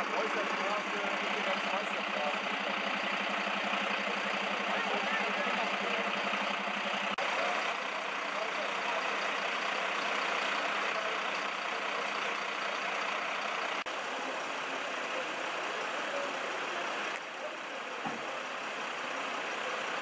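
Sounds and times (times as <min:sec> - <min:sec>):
vehicle engines idling: 0:00.0 - 0:20.0.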